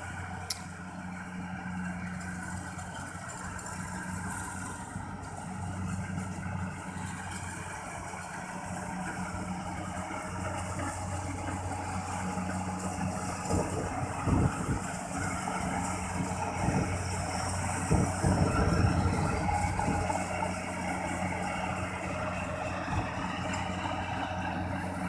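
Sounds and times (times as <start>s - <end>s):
harvester engine running: 0.0s - 25.0s
low engine rumbles: 0.0s - 25.0s.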